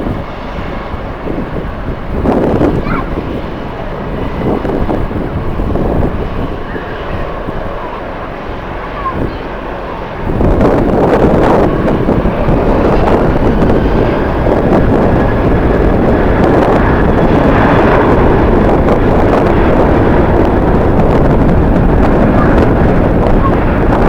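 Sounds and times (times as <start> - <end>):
jet engines roaring: 0.0 - 24.0
wind buffeting microphone: 0.0 - 24.0.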